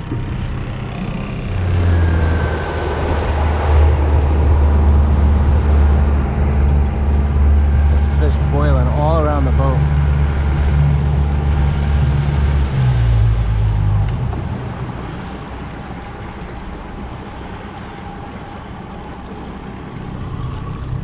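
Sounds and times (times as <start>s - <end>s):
outboard engine running: 0.0s - 21.0s
wind and water hiss: 0.0s - 21.0s.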